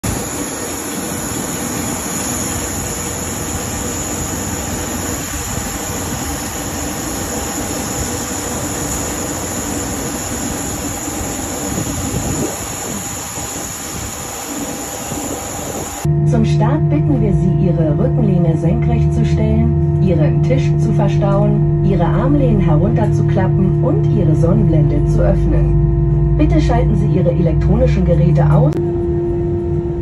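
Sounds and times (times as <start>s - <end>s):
jet aircraft rumble and whine: 0.0s - 30.0s.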